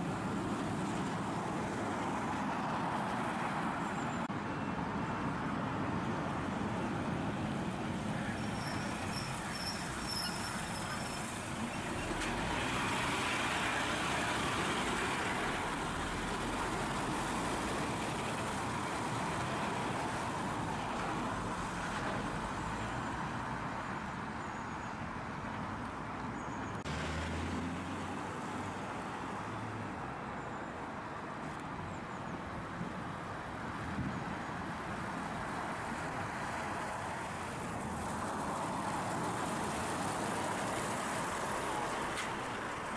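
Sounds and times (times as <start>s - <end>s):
lorries passing on road: 0.0s - 42.9s.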